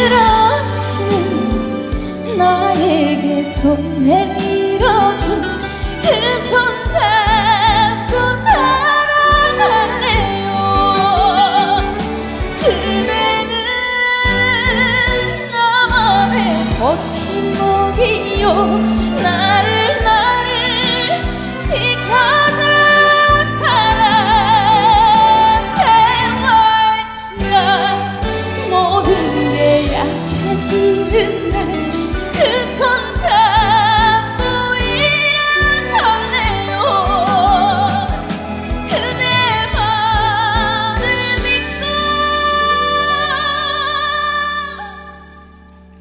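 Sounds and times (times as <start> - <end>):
backing band: 0.0 - 43.4
woman singing with vibrato: 0.0 - 45.6.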